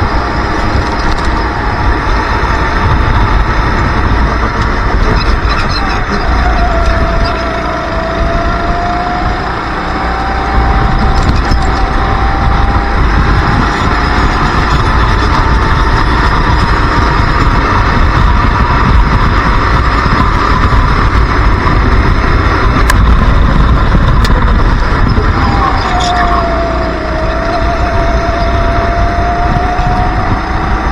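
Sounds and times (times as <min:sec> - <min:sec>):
kart engine at full throttle: 0:00.0 - 0:30.9
wind rumble on microphone: 0:00.0 - 0:30.9.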